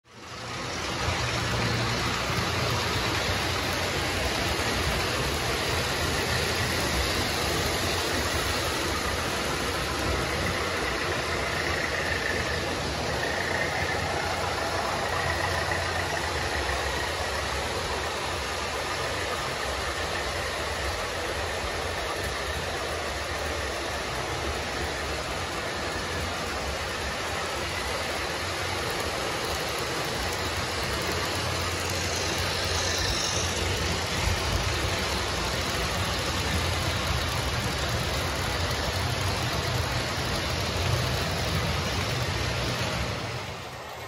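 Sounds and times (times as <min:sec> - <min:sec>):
model train motor hum: 0:00.1 - 0:44.0.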